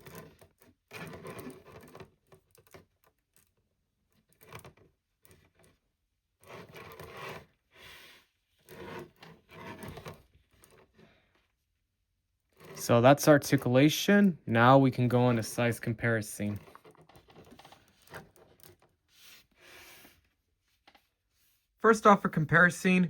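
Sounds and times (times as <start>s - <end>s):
plastic toy rubbing and scraping: 0.0s - 11.7s, 12.4s - 22.7s.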